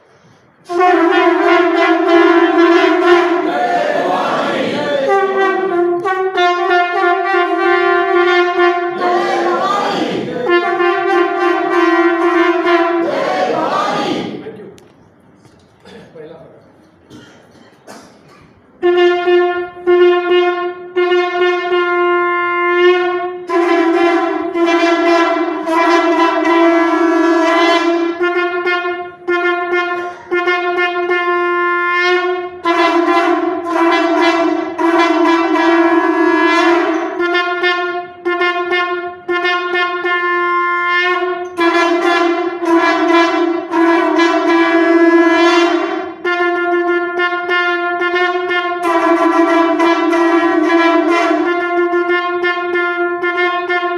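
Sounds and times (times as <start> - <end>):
conch shells blowing: 0.0 - 14.9, 17.0 - 53.9.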